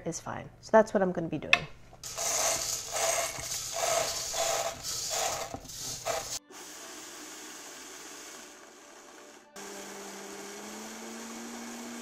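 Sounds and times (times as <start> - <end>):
grains poured into blender: 2.0 - 12.0.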